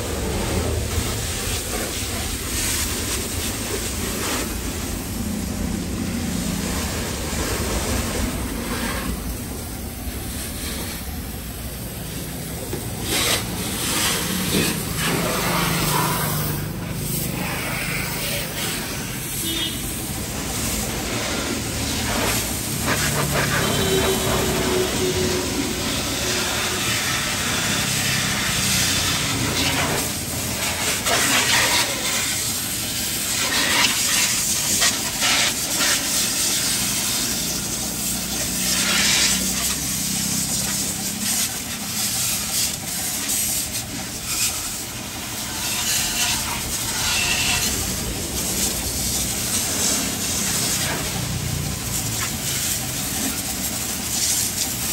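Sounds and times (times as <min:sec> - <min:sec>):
water spraying onto a car: 0:00.0 - 0:54.9.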